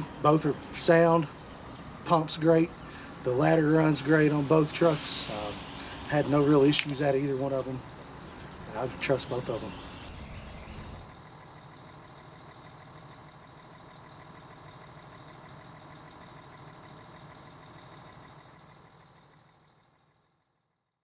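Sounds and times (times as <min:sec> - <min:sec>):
fire truck engine idling: 0:00.0 - 0:20.9.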